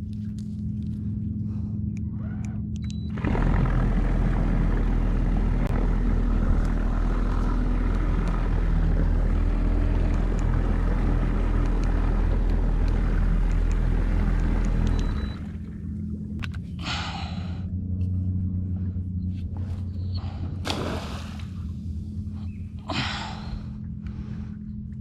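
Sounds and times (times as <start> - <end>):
boat motor running: 0.0 - 25.0.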